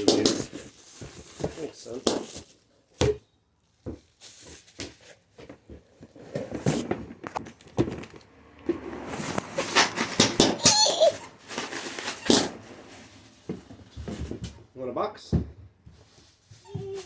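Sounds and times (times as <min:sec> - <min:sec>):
cardboard and plastic packaging rustling: 0:00.0 - 0:17.0.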